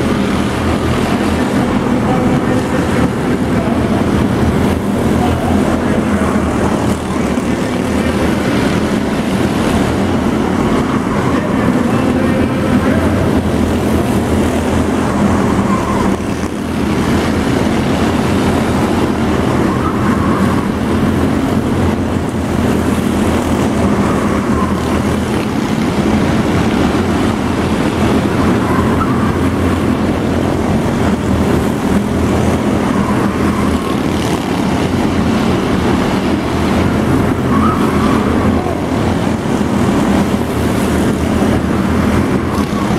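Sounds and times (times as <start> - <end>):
model race car engines: 0.0 - 42.9.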